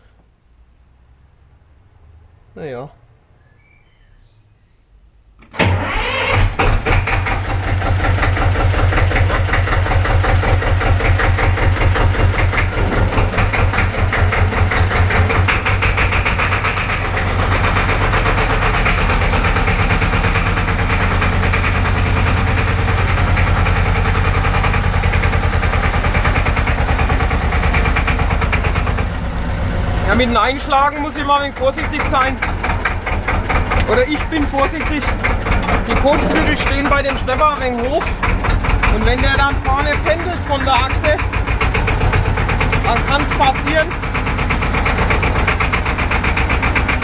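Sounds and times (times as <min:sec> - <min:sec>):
diesel tractor engine starting: 0:05.4 - 0:47.0.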